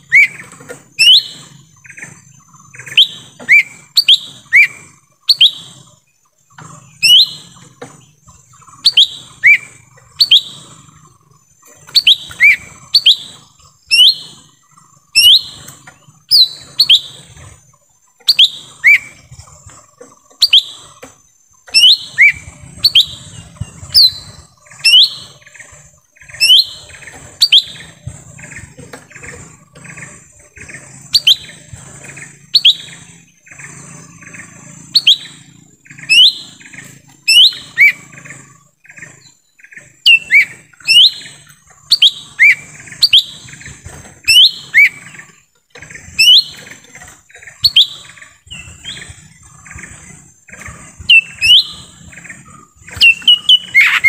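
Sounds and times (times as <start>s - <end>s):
bird sharp sweeping chirps: 0.0s - 54.0s.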